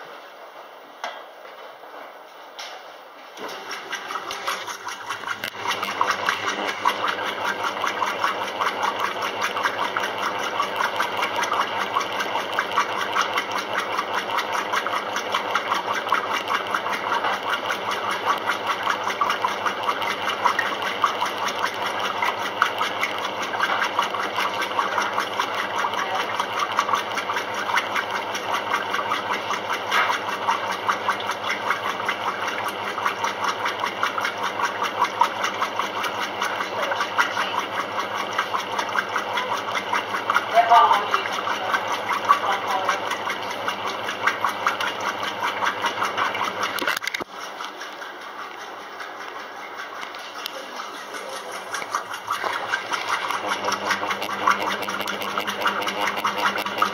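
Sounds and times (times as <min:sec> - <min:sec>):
washing machine agitating: 0:00.0 - 0:56.9.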